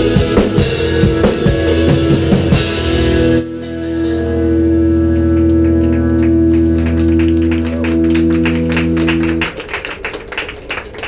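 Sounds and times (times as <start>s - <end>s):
distorted guitar chord ringing: 0.0s - 9.5s.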